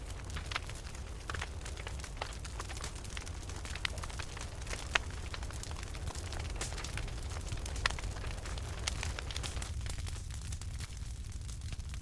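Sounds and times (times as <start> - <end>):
burning wood popping and snapping: 0.0 - 12.0
low steady fire rumble: 0.0 - 12.0.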